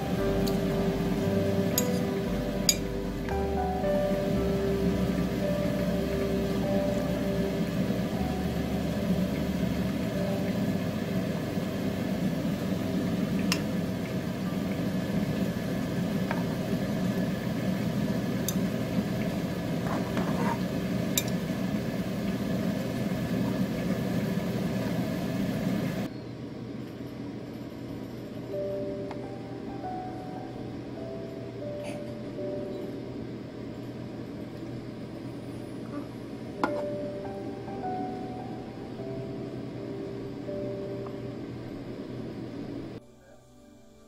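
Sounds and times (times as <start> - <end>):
low machine hum: 0.0 - 44.0.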